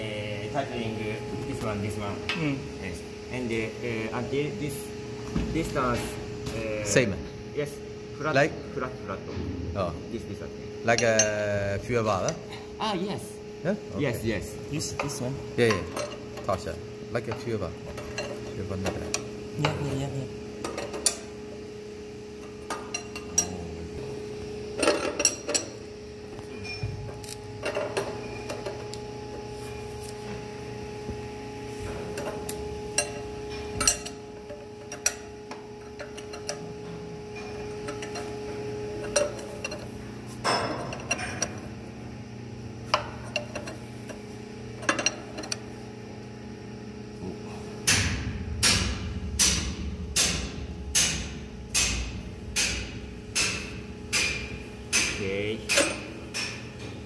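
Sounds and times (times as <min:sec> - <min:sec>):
steady machinery hum: 0:00.0 - 0:57.0.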